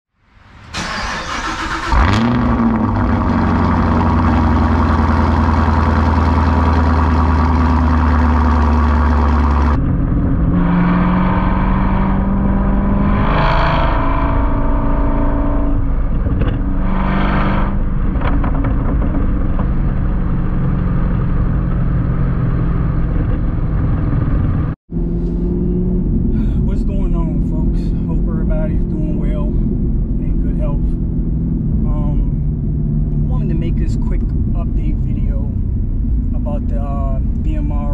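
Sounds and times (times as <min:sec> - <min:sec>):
car engine starting and idling: 0:00.2 - 0:37.9.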